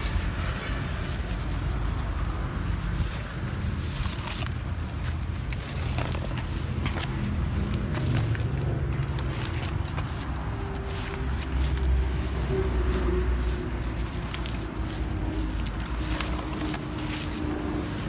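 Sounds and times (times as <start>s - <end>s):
leaves rustling and scraping on concrete: 0.0s - 18.0s.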